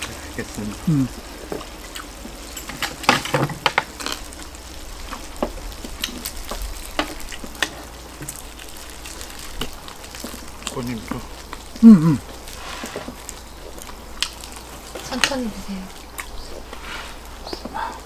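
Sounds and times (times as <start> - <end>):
chopsticks stirring sticky food: 0.0 - 18.0
faint hiss: 0.0 - 18.0
wet eating sounds: 0.0 - 18.0.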